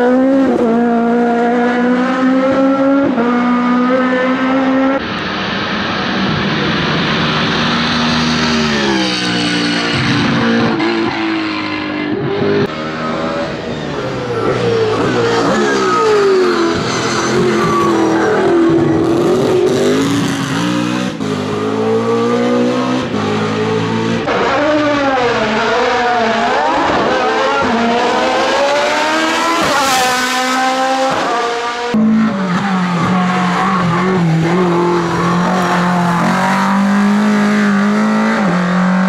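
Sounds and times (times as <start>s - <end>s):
racing car engines revving: 0.0s - 39.0s.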